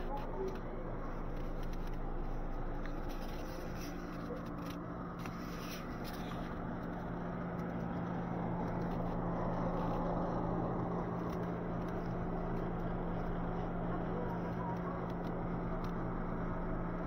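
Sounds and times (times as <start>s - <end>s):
motor vehicle engine hum: 0.0s - 17.0s.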